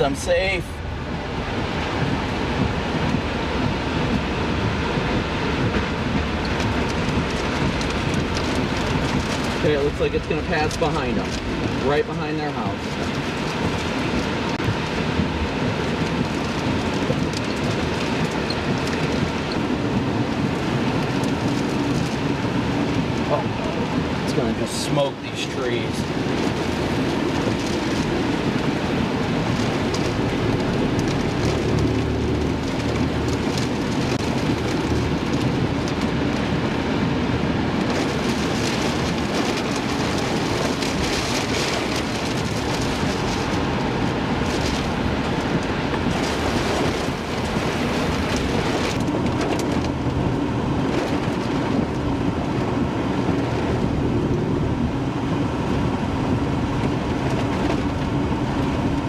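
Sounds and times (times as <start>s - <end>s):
heavy low rumble: 0.0s - 59.0s
heavy rain: 0.0s - 59.0s
wind roaring: 0.0s - 59.0s.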